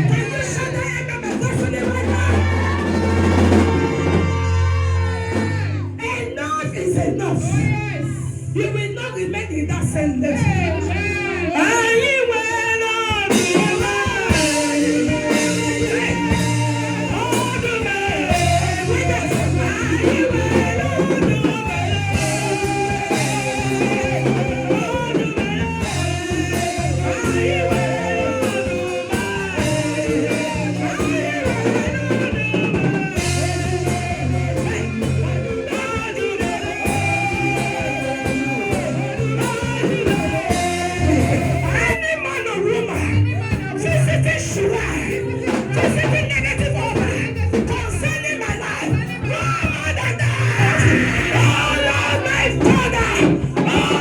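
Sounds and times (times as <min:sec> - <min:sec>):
singing over rock band: 0:00.0 - 0:54.0.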